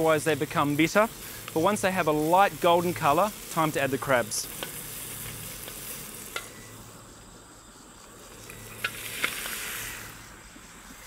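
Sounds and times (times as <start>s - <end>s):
food sizzling in hot oil: 0.0s - 7.1s, 8.2s - 11.0s.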